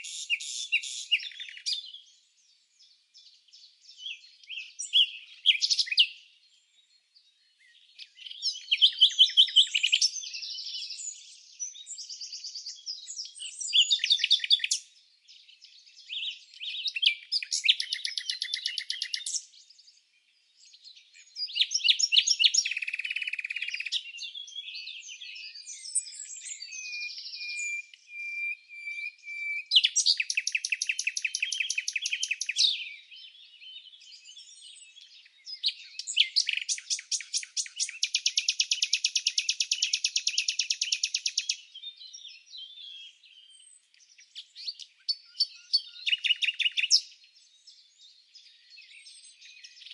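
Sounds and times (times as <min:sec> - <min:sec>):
songbirds chirping and trilling: 0:00.0 - 0:49.9.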